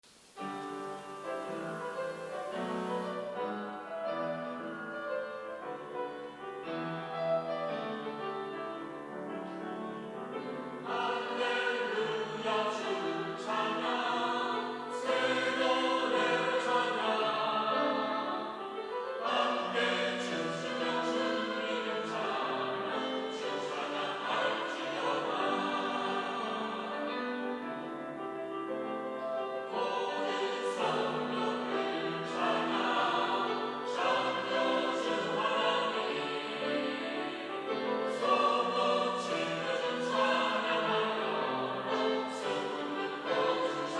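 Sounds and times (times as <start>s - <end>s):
church choir singing: 0.1s - 43.9s.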